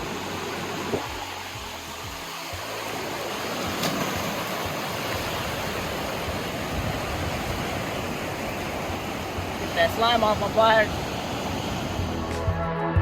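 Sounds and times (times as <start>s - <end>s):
ocean surf washing on beach: 0.0s - 12.5s.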